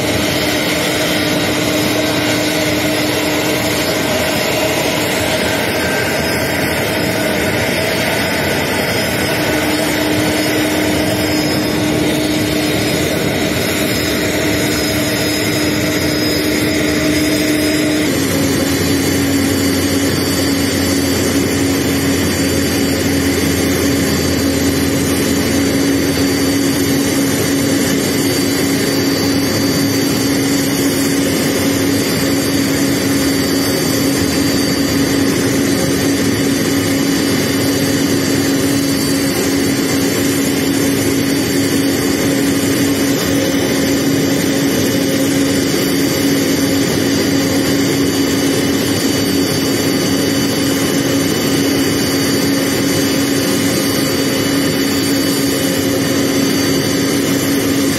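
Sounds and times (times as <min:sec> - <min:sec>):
airliner idling drone: 0:00.0 - 0:57.9.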